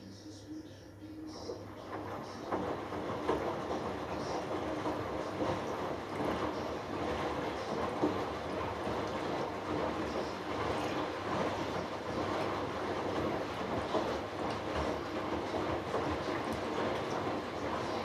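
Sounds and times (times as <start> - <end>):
water and clothes sloshing: 1.4 - 18.0
washing machine drum turning: 1.7 - 18.0.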